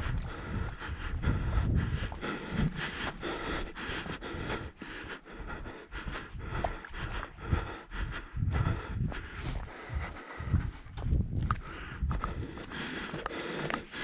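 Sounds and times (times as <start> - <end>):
wind rumbling on microphone: 0.0 - 13.2
footsteps on a trail: 0.0 - 14.0
person panting: 0.0 - 14.0.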